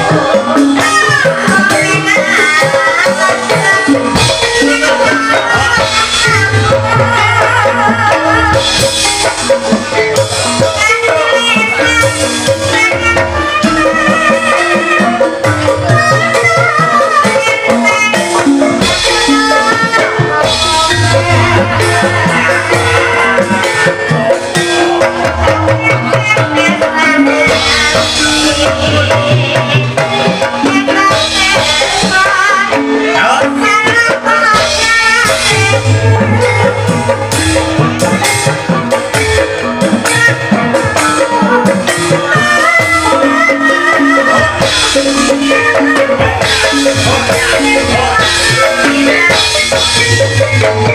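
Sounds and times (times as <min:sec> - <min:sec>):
drum strokes: 0:00.0 - 0:50.9
gongs and metallophones melody: 0:00.0 - 0:50.9.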